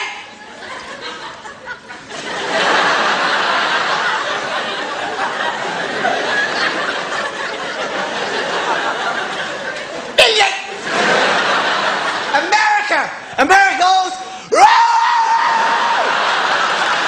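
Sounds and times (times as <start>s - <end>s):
audience laughing: 0.2s - 13.3s, 15.5s - 17.0s.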